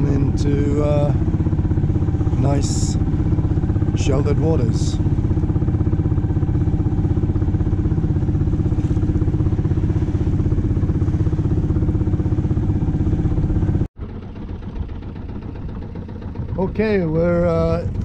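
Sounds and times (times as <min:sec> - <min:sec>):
boat engine fast-pulsing drone: 0:00.0 - 0:18.0
quieter engine drone: 0:00.0 - 0:18.0.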